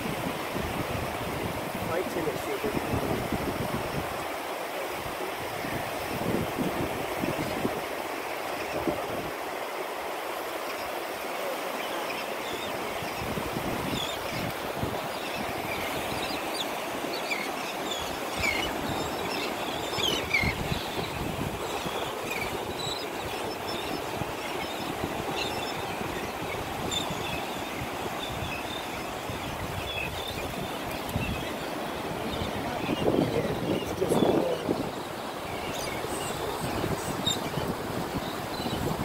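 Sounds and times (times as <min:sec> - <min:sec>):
wind on microphone: 0:00.0 - 0:04.3, 0:05.0 - 0:08.0, 0:12.7 - 0:16.6, 0:18.0 - 0:39.0
surf: 0:00.0 - 0:39.0.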